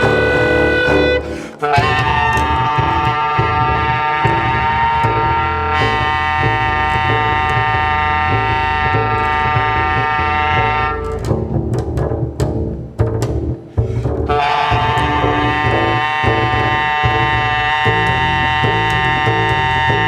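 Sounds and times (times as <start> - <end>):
clarinet held high tone: 0.0 - 11.3, 14.3 - 20.0
double bass pulsing pattern: 0.0 - 20.0.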